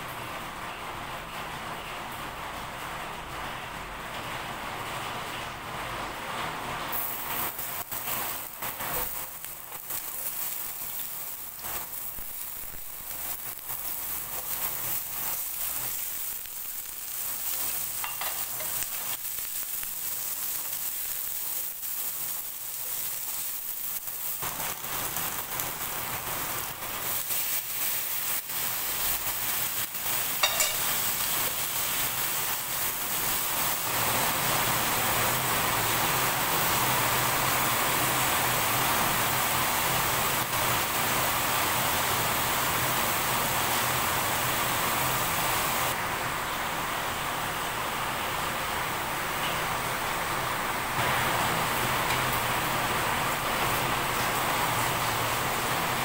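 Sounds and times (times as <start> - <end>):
heavy rain: 0.0 - 56.0
vegetables sizzling in frying pan: 6.9 - 56.0.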